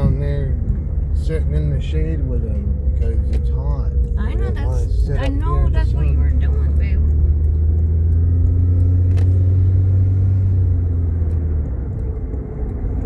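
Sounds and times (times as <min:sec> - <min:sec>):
car low rumble: 0:00.0 - 0:13.0.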